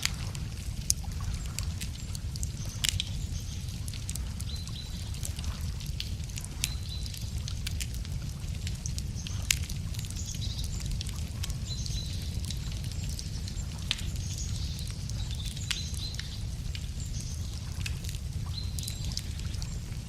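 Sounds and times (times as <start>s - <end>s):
campfire crackling with pops: 0.0s - 20.0s.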